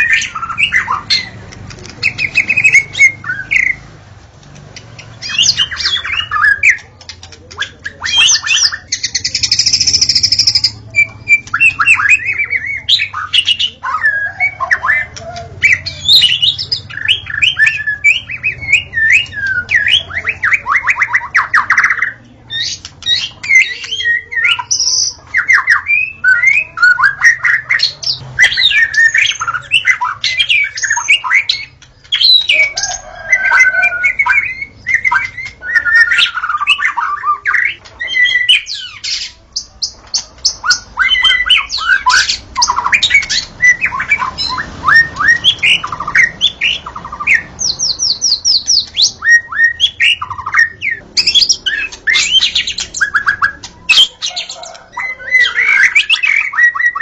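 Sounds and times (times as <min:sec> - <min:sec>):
songbird singing whistled phrases: 0:07.6 - 0:57.0.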